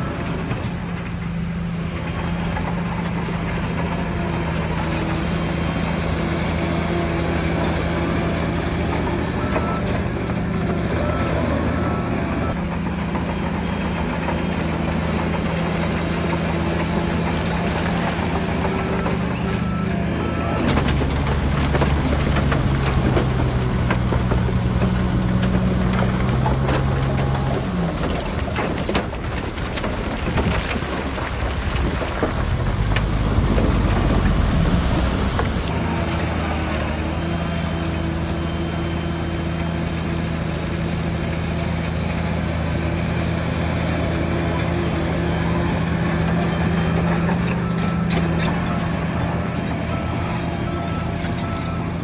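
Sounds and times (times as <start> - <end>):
diesel machinery engine drone: 0.0 - 52.0
machinery clatter: 0.0 - 52.0.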